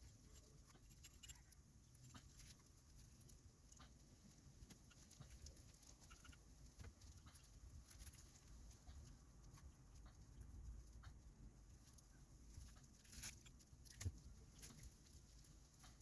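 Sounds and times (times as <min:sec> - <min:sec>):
handling clicks and scratching: 0:00.0 - 0:11.2, 0:11.8 - 0:16.0.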